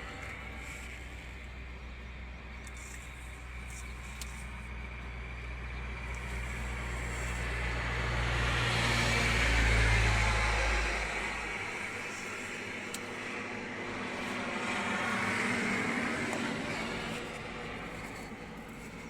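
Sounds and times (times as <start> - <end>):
heavy engine humming: 0.0 - 19.0.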